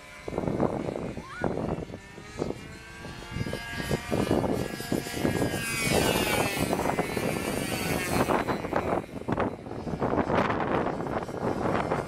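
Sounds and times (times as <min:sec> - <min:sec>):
model airplane motor drone: 0:00.0 - 0:12.0.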